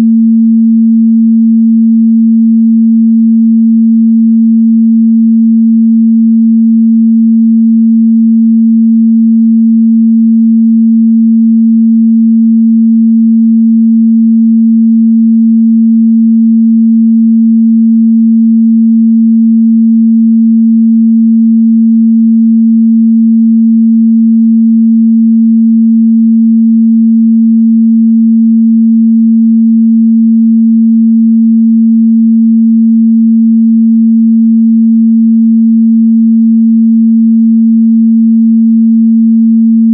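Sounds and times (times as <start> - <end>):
steady sine wave test tone: 0.0 - 39.9.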